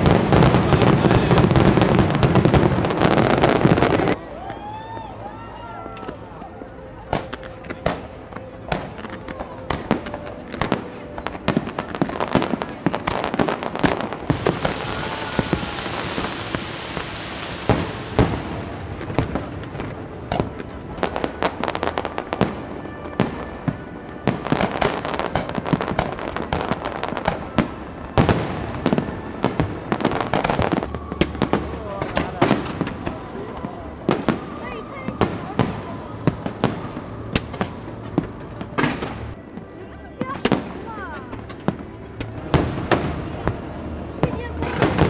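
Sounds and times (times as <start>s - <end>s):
fireworks bangs and crackles: 0.0s - 4.6s, 5.7s - 45.0s.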